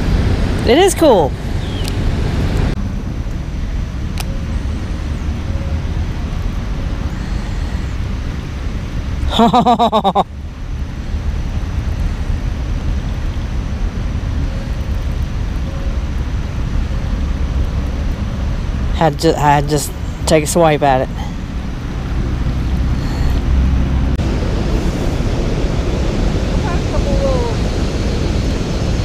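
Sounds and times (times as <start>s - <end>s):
low outdoor rumble: 0.0s - 29.0s.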